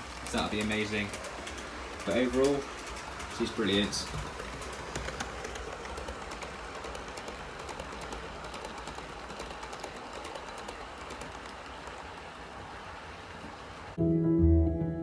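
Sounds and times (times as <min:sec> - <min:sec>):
model train running whir: 0:00.0 - 0:14.0
wheels clicking over rail joints: 0:00.0 - 0:14.0.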